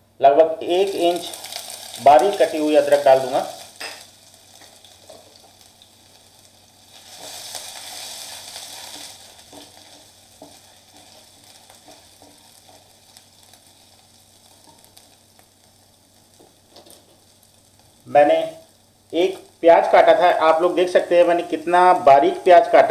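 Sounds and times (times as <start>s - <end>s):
spices sizzling in hot oil: 0.6s - 22.9s.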